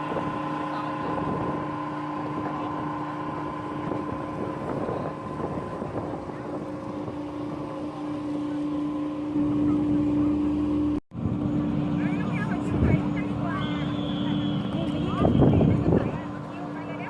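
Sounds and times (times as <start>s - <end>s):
ship machinery drone: 0.0s - 17.0s.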